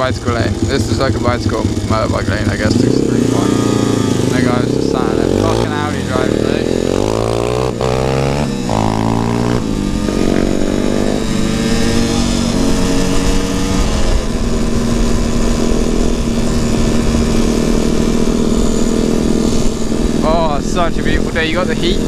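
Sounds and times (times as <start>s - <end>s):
motorcycle engine shifting gears: 0.0s - 22.0s.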